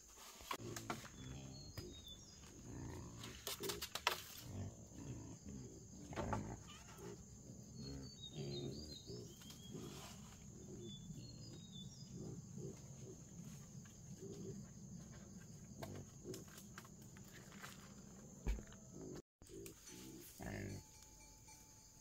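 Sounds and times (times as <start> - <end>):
wild boars grunting: 0.6 - 16.6, 18.8 - 20.9
insect drone: 0.6 - 22.0.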